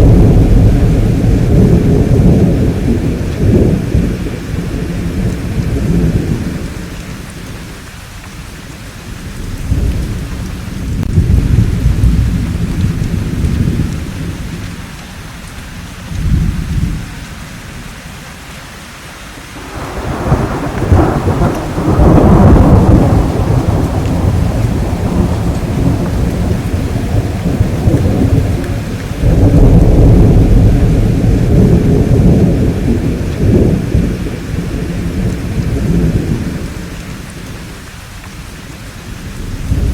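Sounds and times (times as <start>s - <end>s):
rolling thunder: 0.0s - 7.6s, 9.2s - 14.8s, 15.7s - 17.1s, 19.6s - 37.6s, 39.2s - 39.9s
steady rain: 0.0s - 39.9s.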